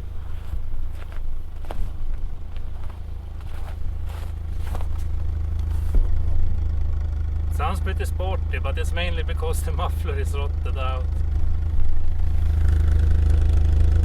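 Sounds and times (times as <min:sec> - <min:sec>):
car engine idling with deep exhaust: 0:00.0 - 0:14.0.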